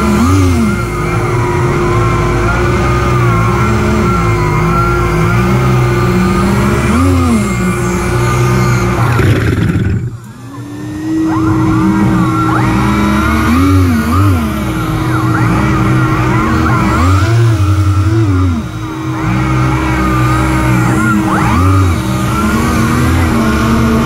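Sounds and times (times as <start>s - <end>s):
lift fan steady tone: 0.0s - 24.0s
propellers rising and falling in pitch: 0.0s - 24.0s.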